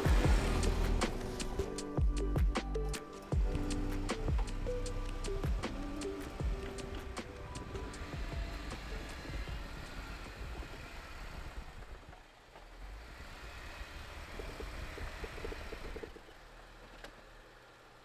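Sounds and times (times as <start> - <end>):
engine running low rumble: 0.0 - 17.5.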